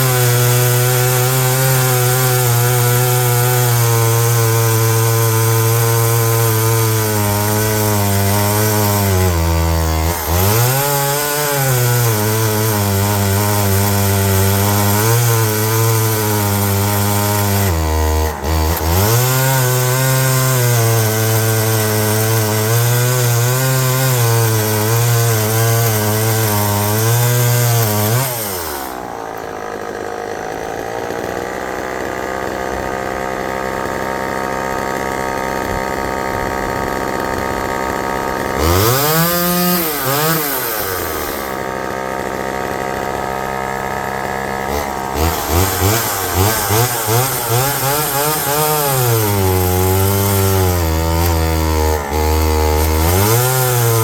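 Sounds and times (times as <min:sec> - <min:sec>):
chainsaw cutting wood: 0:00.0 - 0:54.0
chainsaw idling and revving: 0:00.0 - 0:54.0.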